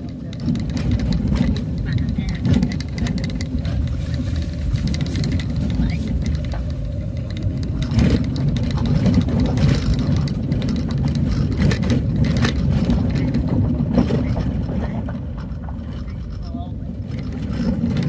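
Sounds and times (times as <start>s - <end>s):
knocks and rattles: 0.0s - 18.0s
vehicle engine rumbling: 0.0s - 18.0s.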